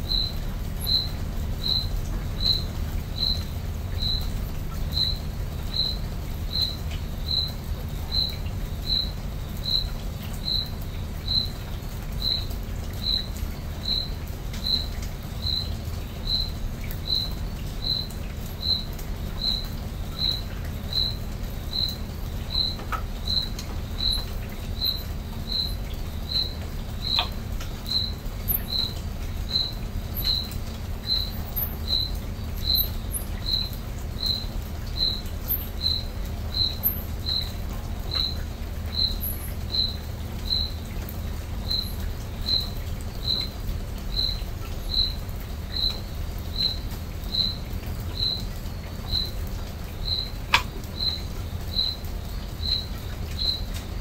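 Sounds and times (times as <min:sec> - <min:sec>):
cricket chirping: 0:00.0 - 0:54.0
low steady rumble: 0:00.0 - 0:54.0.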